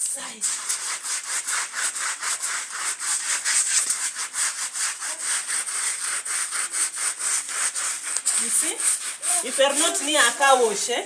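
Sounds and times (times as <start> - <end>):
brush scrubbing wet carpet: 0.0 - 11.0.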